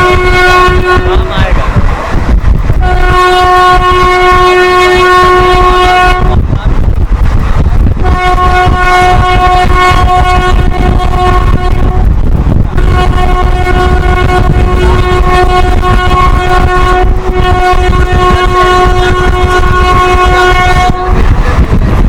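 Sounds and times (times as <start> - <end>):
train horn blasts: 0.0 - 1.6, 2.8 - 6.6, 7.4 - 22.0
train rumbling at speed: 0.0 - 22.0.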